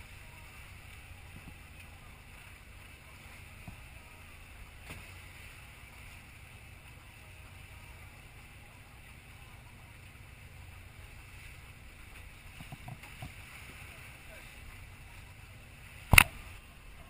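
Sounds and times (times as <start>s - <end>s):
boat engine drone: 0.0s - 17.0s
water rushing past hull: 0.0s - 17.0s.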